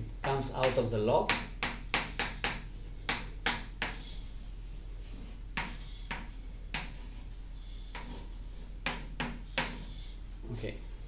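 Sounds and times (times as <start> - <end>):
chalk tapping and scratching on board: 0.2 - 10.0.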